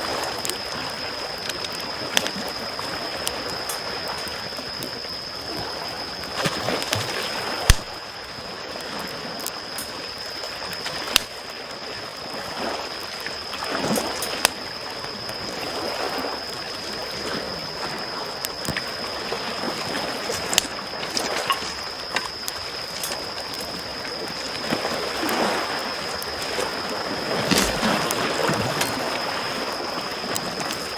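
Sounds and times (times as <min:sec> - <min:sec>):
campfire crackling and popping: 0:00.0 - 0:30.9
waves lapping at shore: 0:00.0 - 0:30.9.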